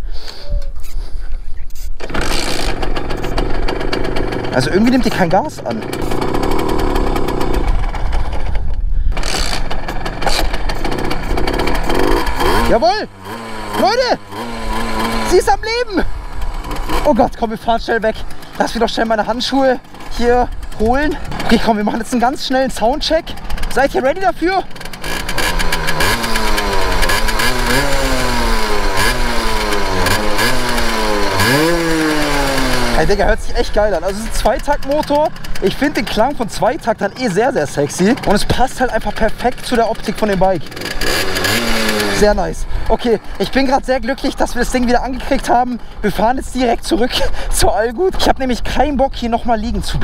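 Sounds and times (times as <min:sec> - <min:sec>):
two-stroke motorcycle engine: 0:02.0 - 0:49.2.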